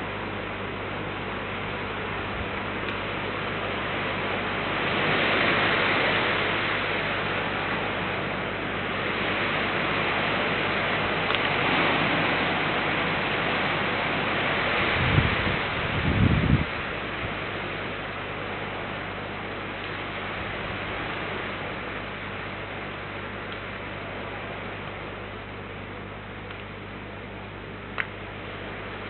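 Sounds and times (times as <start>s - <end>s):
rain falling: 1.9s - 29.0s.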